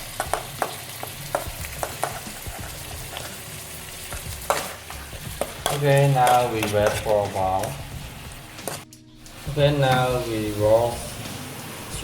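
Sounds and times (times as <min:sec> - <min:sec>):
food sizzling in a frying pan: 0:00.0 - 0:12.0
spatula scraping a pan: 0:00.6 - 0:12.0.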